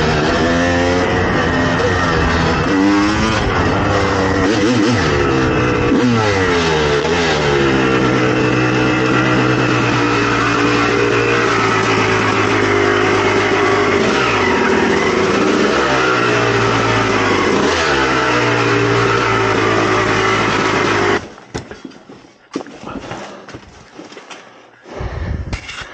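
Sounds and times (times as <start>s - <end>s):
dirt bike engine: 0.0s - 23.9s.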